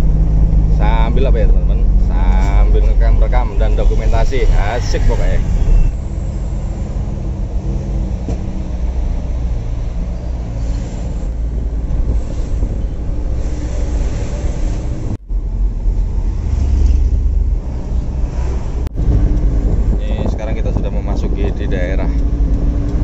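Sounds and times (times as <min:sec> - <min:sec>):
road noise: 0:00.0 - 0:23.0
truck engine rumble: 0:00.0 - 0:23.0.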